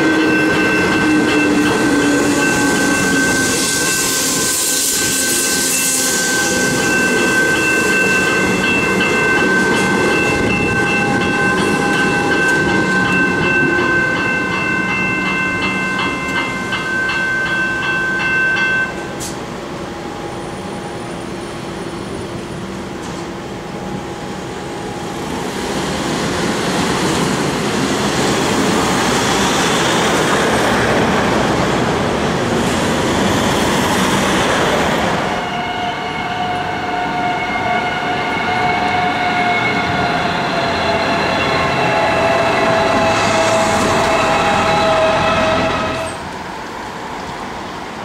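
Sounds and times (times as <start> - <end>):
whine of heavy vehicles: 0.0 - 48.0.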